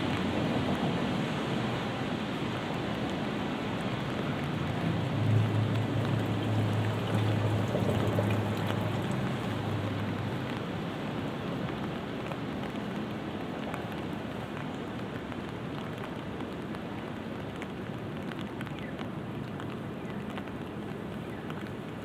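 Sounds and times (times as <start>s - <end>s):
light rain falling: 0.0s - 22.0s
raindrops ticking on umbrella: 0.0s - 22.0s.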